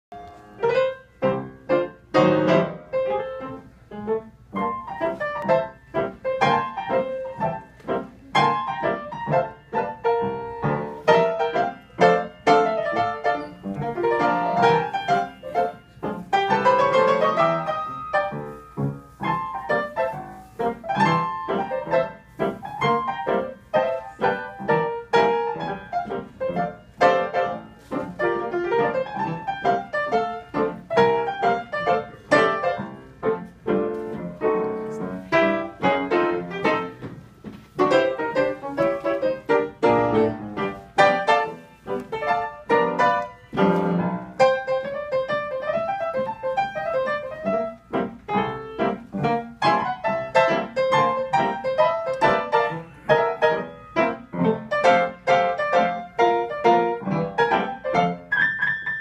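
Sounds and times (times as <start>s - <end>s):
piano playing: 0.1s - 59.0s.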